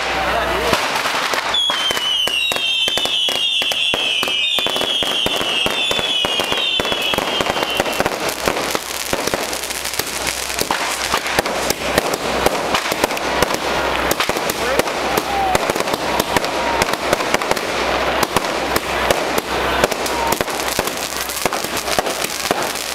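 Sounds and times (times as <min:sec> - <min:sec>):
firecrackers cracking and banging: 0:00.0 - 0:22.9.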